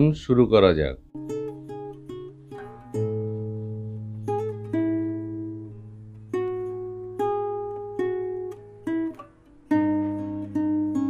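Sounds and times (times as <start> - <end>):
plucked acoustic guitar: 1.0 - 11.0.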